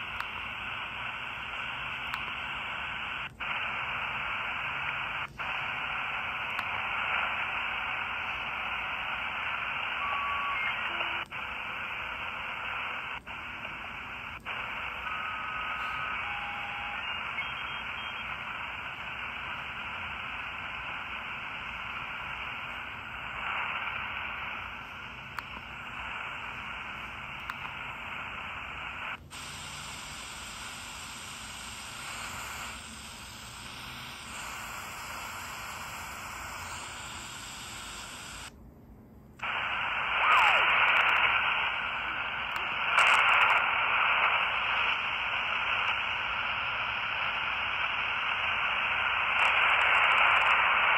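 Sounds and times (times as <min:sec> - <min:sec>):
radio static hiss: 0:00.0 - 0:38.6, 0:39.4 - 0:50.9.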